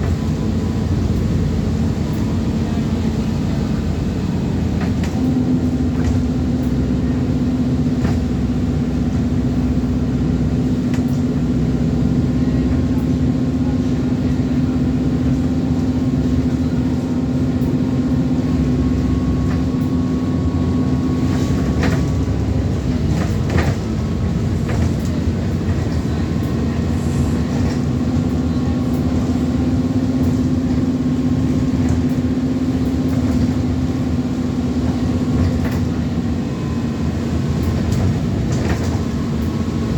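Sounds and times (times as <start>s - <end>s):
bus engine whine: 0.0s - 39.9s.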